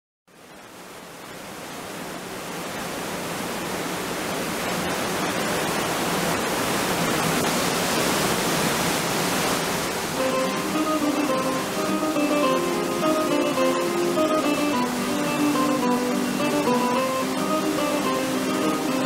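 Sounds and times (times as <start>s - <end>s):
waterfall rushing: 0.3s - 19.0s.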